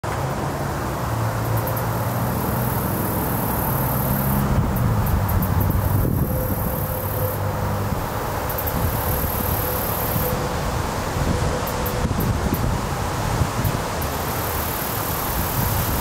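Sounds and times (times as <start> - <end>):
distant traffic hum: 0.0 - 16.0.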